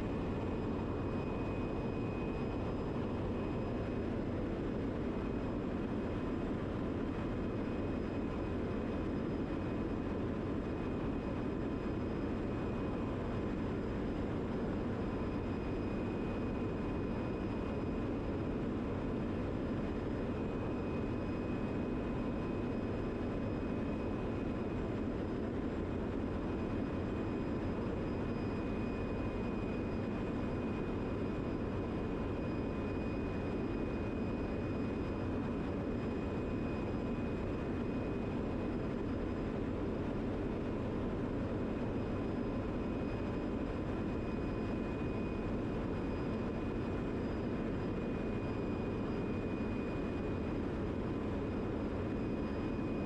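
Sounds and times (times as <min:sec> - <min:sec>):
faint high whine: 0:00.0 - 0:53.0.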